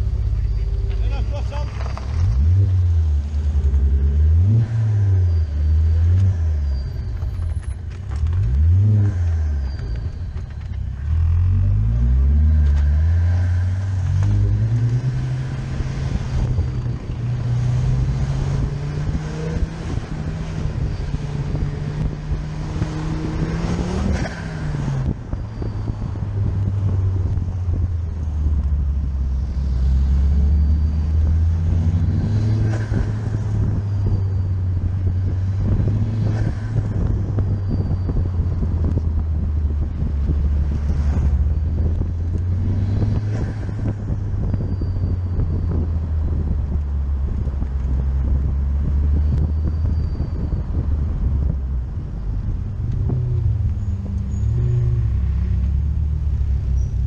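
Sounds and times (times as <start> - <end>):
car engine revving: 0.0 - 49.5
road noise: 0.0 - 57.0
wind noise: 0.0 - 57.0.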